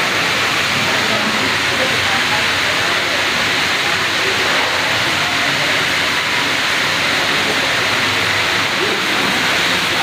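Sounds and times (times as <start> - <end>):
faint voices: 0.0 - 10.0
loud steady hiss: 0.0 - 10.0.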